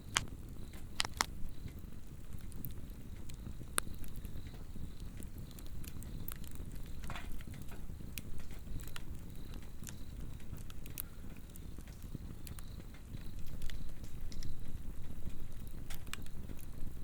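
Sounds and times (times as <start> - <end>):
insects trilling: 0.0 - 17.0
log fire crackling and popping: 0.0 - 17.0
low rumble of flame: 0.0 - 17.0.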